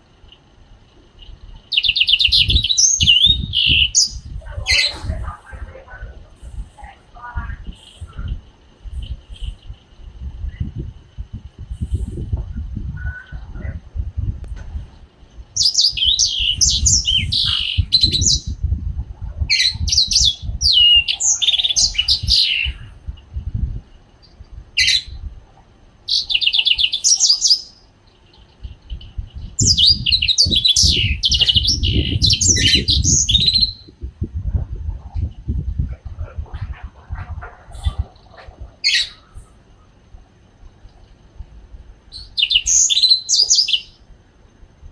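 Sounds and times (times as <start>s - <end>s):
songbird twittering: 0.1s - 6.1s, 7.2s - 13.8s, 15.2s - 18.7s, 19.4s - 25.3s, 26.1s - 40.0s, 42.1s - 44.1s.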